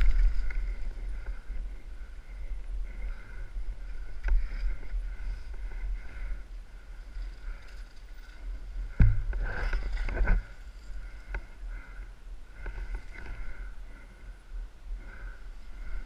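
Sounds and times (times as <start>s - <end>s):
bike rattling over bumps: 0.0s - 14.3s
wind rumble on camera: 0.0s - 16.0s.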